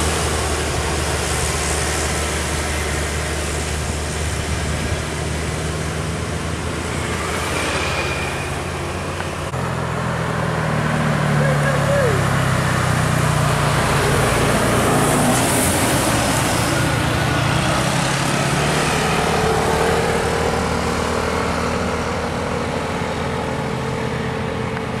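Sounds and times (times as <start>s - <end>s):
car passing: 0.0s - 25.0s
coach diesel engine passing: 0.0s - 25.0s
steady higher engine tone: 0.0s - 25.0s
motorcycle passing: 1.6s - 24.9s.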